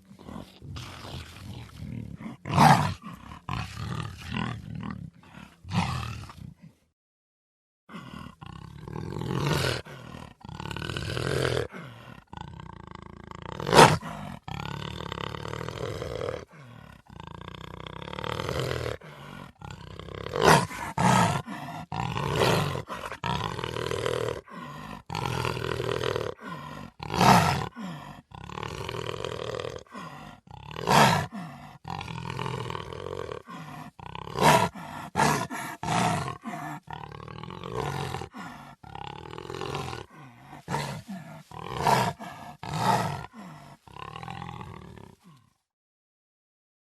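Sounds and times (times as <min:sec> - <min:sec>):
big cat growling and roaring: 0:00.0 - 0:06.8, 0:07.9 - 0:45.6.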